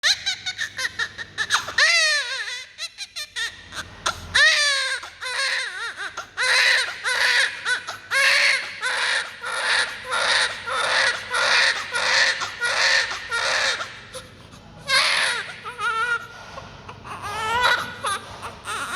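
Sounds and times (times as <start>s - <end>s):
baby crying: 0.0s - 18.9s.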